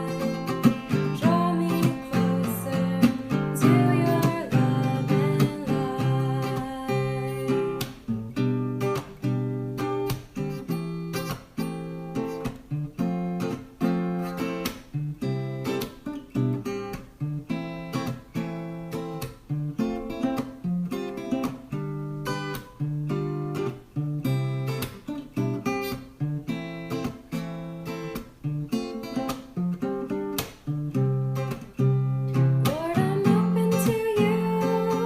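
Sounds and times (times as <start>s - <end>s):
acoustic guitar strumming chords: 0.0s - 35.0s.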